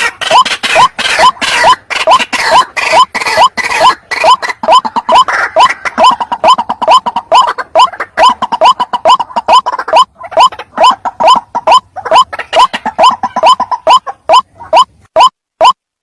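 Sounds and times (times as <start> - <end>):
waterhen calling: 0.0 - 15.8.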